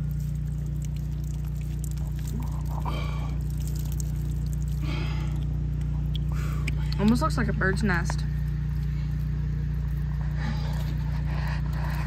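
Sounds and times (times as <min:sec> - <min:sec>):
low engine hum: 0:00.0 - 0:12.0
muddy water pouring and trickling: 0:00.0 - 0:12.0.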